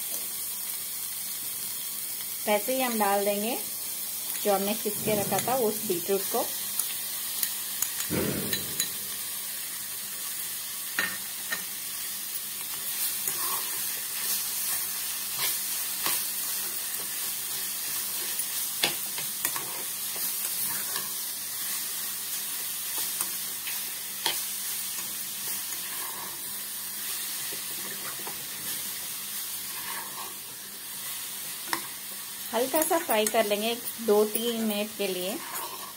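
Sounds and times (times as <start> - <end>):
food sizzling in hot oil: 0.0 - 35.9.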